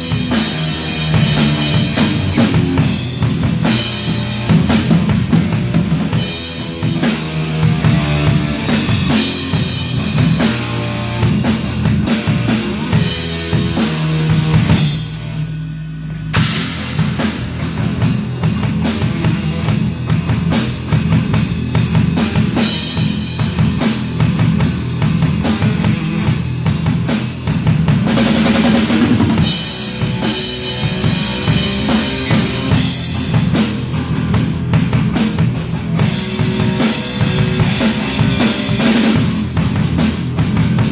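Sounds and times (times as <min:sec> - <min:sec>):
distorted guitar: 0:00.0 - 0:40.9
drum kit: 0:00.0 - 0:40.9
rock band playing: 0:00.0 - 0:40.9.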